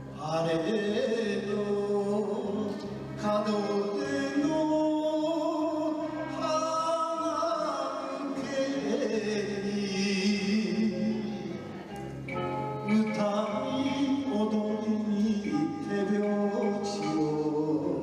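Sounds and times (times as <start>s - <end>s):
instrumental backing track: 0.0s - 18.0s
person singing with vibrato: 0.0s - 18.0s.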